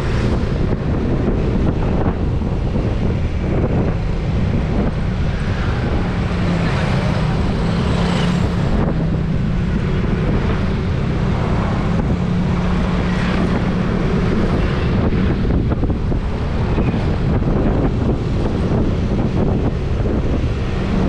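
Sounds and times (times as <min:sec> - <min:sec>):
vehicle engine drone: 0:00.0 - 0:21.0
wind buffeting microphone: 0:00.0 - 0:21.0.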